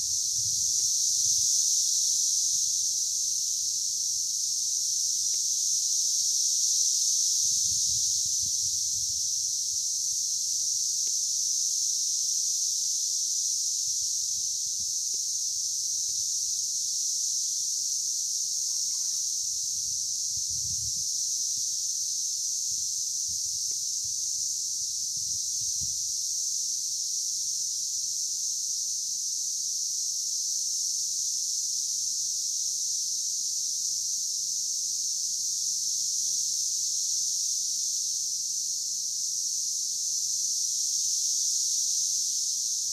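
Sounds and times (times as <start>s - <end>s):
cicadas droning: 0.0s - 42.9s.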